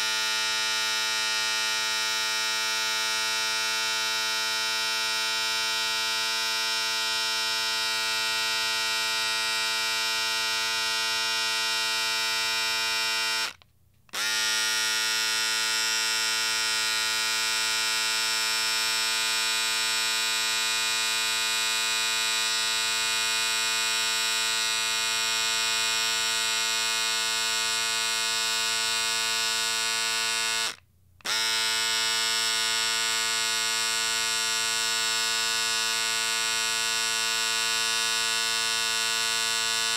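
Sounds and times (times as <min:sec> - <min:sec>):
electric shaver buzzing: 0:00.0 - 0:39.9.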